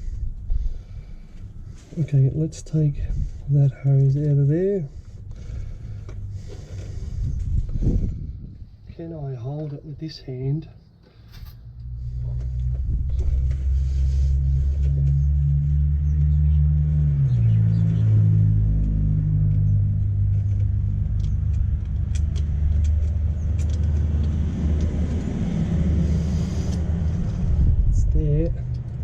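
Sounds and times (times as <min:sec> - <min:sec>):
engine running with low rumble: 0:00.0 - 0:29.0.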